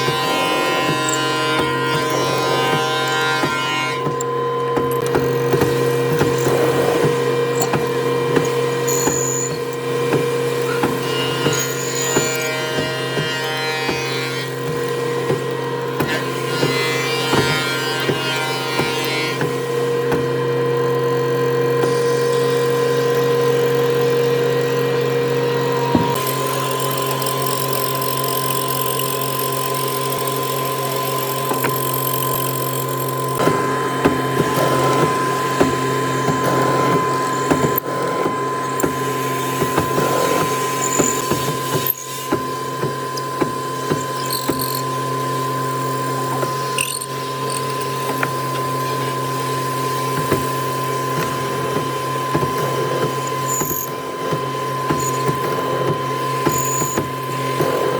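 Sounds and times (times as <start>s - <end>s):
power tool whining: 0.0s - 57.9s.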